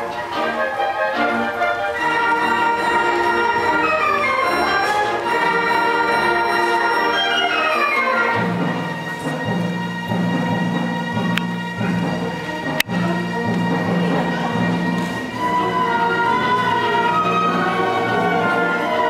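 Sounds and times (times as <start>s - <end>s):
orchestral music: 0.0s - 19.0s.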